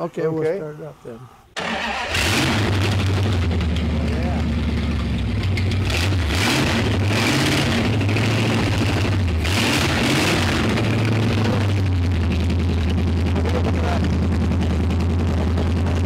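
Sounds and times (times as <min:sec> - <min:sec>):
engine revving and idling: 0:01.6 - 0:16.0.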